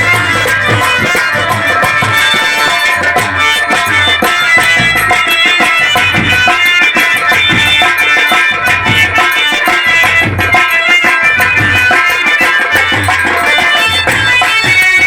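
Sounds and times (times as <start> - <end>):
hand drum strokes: 0.0 - 15.0
harmonium melody: 0.0 - 15.0.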